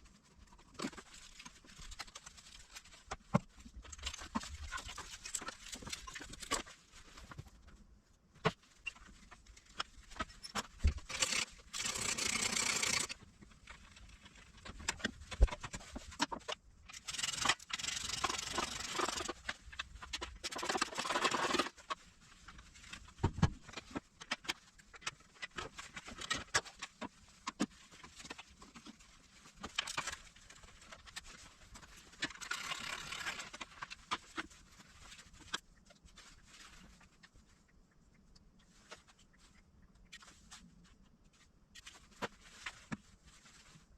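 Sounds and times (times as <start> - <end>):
scraping or rustling: 0.0 - 7.8, 8.4 - 37.6.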